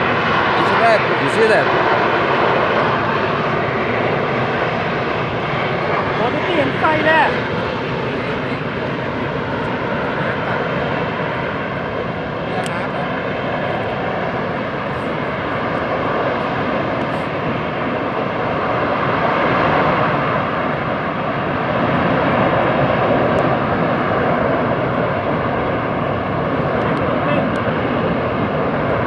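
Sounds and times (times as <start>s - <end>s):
volcano venting gas and ash: 0.0s - 29.0s.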